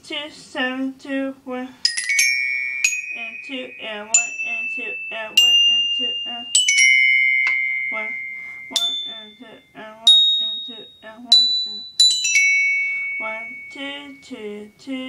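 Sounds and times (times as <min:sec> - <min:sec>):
glockenspiel notes: 0:01.9 - 0:14.5.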